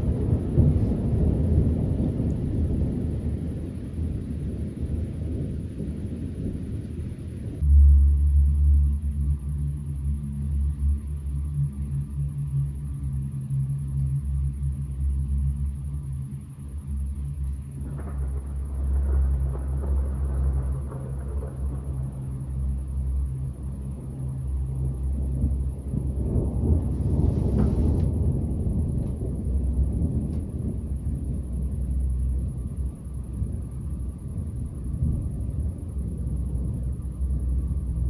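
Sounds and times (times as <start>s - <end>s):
distant thunder rumbling: 0.0s - 12.9s, 13.9s - 38.0s.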